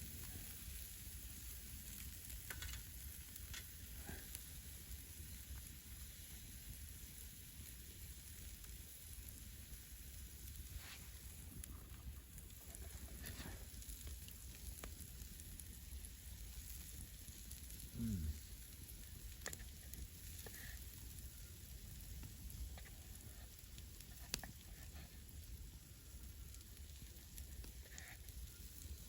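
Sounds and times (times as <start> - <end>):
fire pops and crackles: 0.0 - 29.0
kebabs sizzling over campfire: 0.0 - 29.0.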